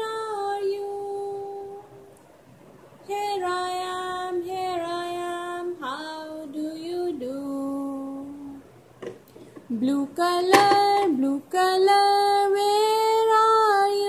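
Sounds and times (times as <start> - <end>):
woman singing: 0.0 - 2.1, 3.1 - 8.7, 9.7 - 14.0.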